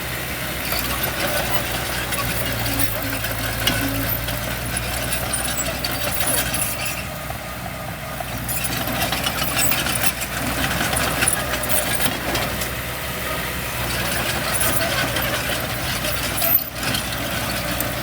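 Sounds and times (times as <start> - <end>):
diesel engine running: 0.0 - 18.0
rattling clatter: 0.6 - 7.1, 8.2 - 12.8, 13.8 - 18.0.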